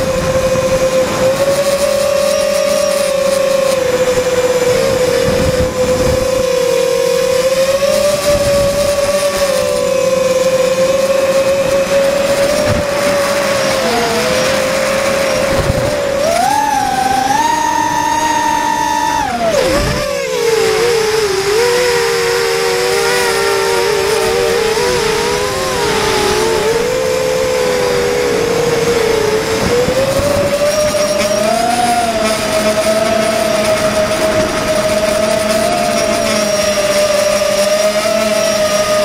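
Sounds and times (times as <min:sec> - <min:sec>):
drone motors whining: 0:00.0 - 0:39.0.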